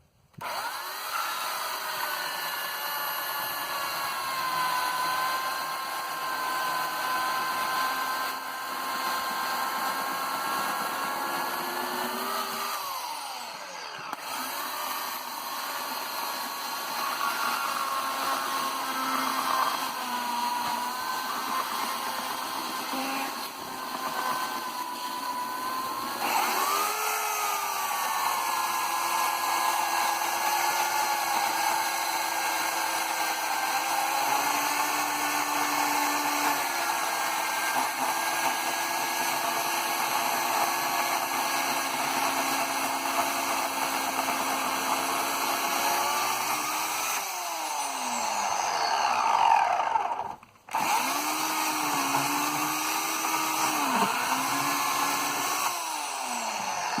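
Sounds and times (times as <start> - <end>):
electric chainsaw cutting wood: 0.0 - 57.0.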